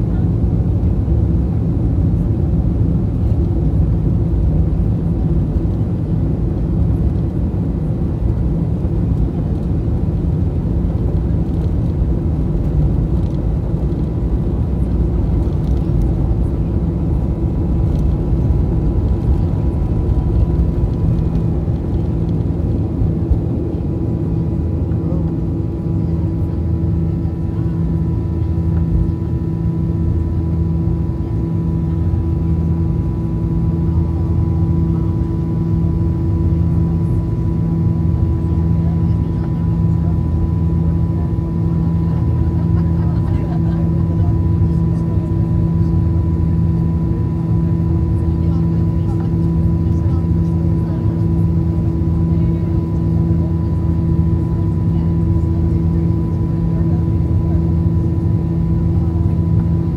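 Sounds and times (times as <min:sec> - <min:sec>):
wheels rumbling on runway: 0:00.0 - 0:32.9, 0:35.9 - 0:59.9.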